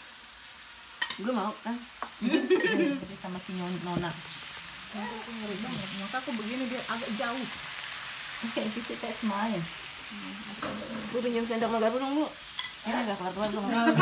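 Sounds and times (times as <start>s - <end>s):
meat sizzling on grill pan: 0.0s - 14.0s.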